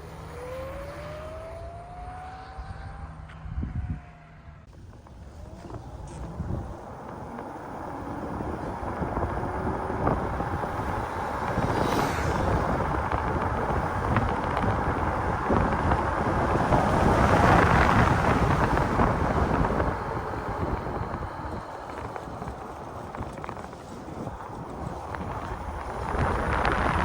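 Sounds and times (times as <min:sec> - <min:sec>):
road noise: 0:00.0 - 0:27.0
wind rushing over microphone: 0:00.0 - 0:27.0.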